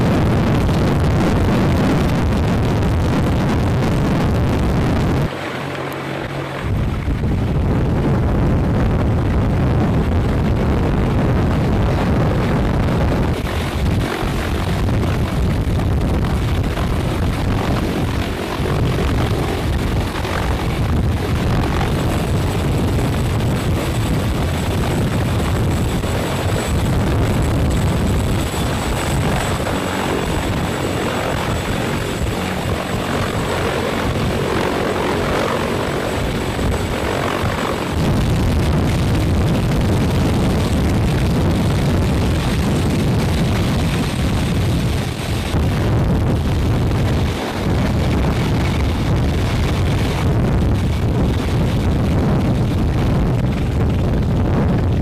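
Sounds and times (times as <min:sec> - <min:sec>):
helicopter rotor and engine noise: 0:00.0 - 0:55.0.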